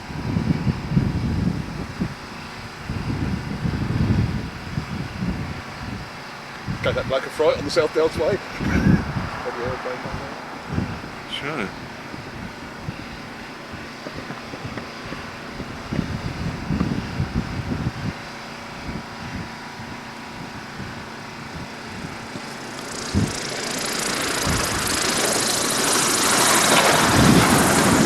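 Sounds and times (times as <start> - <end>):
propeller aircraft engine: 0.0 - 28.0
outdoor rumble: 5.1 - 28.0.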